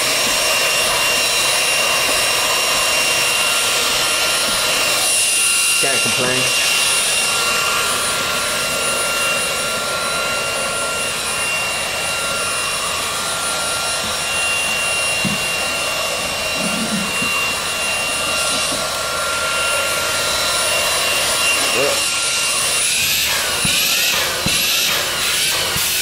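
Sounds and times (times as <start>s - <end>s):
stick vacuum running: 0.0s - 26.0s.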